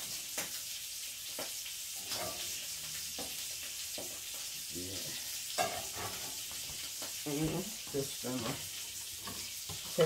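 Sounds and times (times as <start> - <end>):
fish sizzling in a skillet: 0.0 - 10.0.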